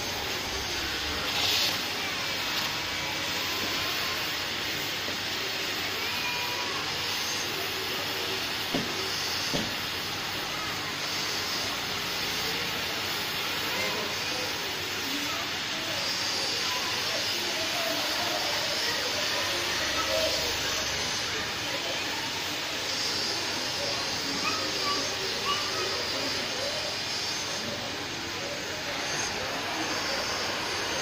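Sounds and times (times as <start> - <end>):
cutting torch hissing: 0.0 - 31.0.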